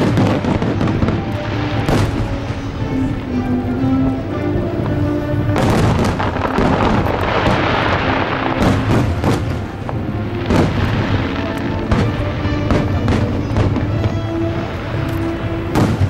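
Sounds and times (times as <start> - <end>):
fireworks bursting and banging: 0.0 - 16.0
fireworks crackling: 0.0 - 16.0
music playing: 0.0 - 16.0.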